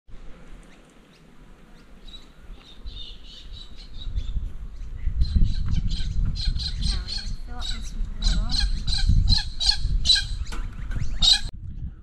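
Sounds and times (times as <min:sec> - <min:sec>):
birds squawking and chirping: 0:00.6 - 0:11.5.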